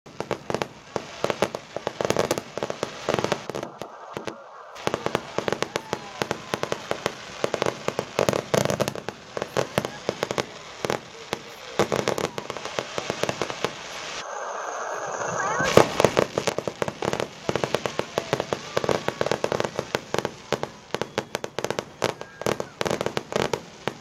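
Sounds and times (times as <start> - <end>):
fireworks bangs and crackles: 0.1 - 24.0.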